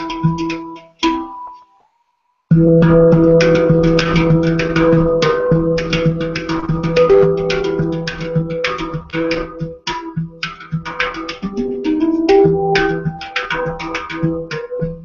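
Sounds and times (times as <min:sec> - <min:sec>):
handpan notes ringing: 0:02.5 - 0:15.0.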